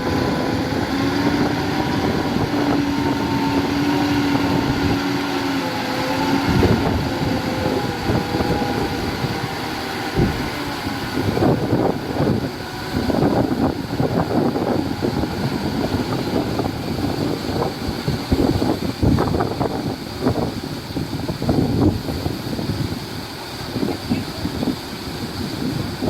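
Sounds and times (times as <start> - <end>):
heavy machinery engine: 0.0 - 26.0
machinery rumbling and clattering: 0.0 - 26.0.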